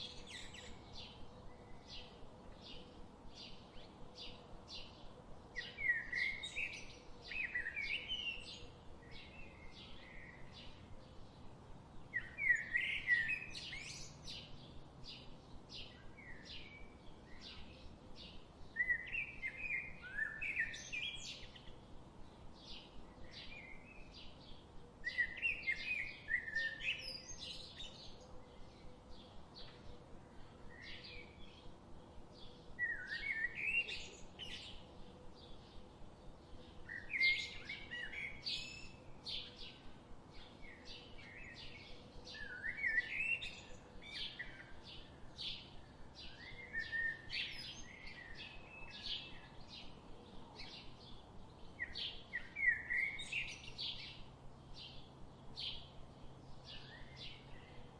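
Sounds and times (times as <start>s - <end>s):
bird warbling song: 0.0s - 21.9s, 22.6s - 31.7s, 32.3s - 35.8s, 36.4s - 57.9s.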